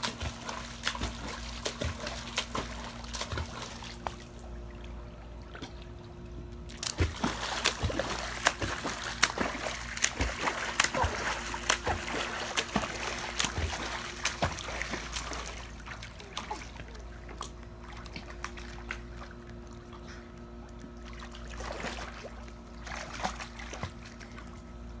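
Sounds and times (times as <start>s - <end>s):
child splashing in pool water: 0.0s - 4.4s, 6.7s - 19.5s, 21.0s - 24.5s
steady low hum: 0.0s - 25.0s.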